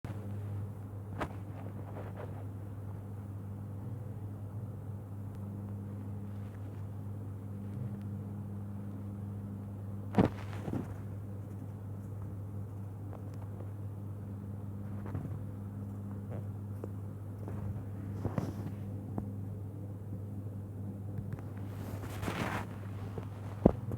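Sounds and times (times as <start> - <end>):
steady low hum: 0.1 - 23.9.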